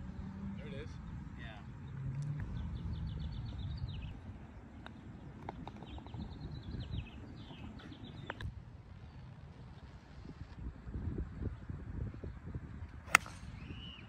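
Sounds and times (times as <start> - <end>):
songbird singing: 0.0 - 9.8, 11.4 - 14.0.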